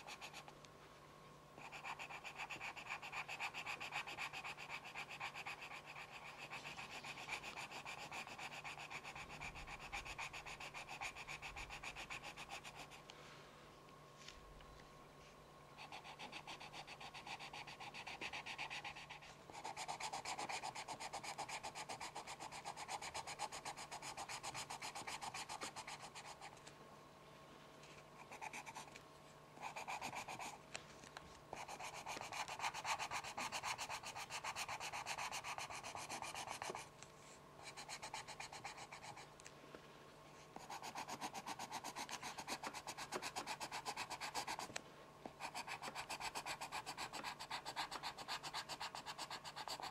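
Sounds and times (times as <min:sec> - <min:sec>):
pencil scratching on paper: 0:00.0 - 0:00.5, 0:01.6 - 0:13.0, 0:15.8 - 0:26.6, 0:28.2 - 0:29.0, 0:29.6 - 0:30.6, 0:31.6 - 0:36.9, 0:37.6 - 0:39.3, 0:40.6 - 0:44.7, 0:45.3 - 0:49.9.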